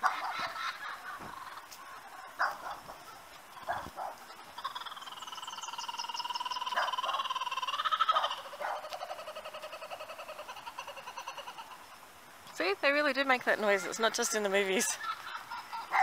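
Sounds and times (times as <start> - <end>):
kookaburra laughing: 0.0 - 12.1, 13.8 - 16.0.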